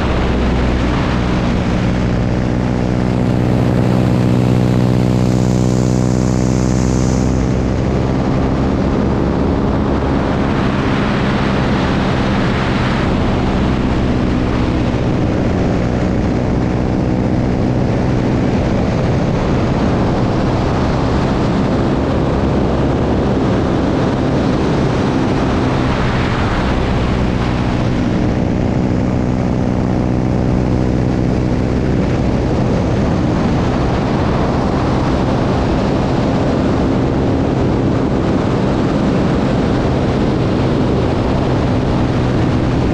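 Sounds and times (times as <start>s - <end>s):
propeller airplane engine droning: 0.0s - 42.9s
wind rushing over microphone: 0.0s - 42.9s.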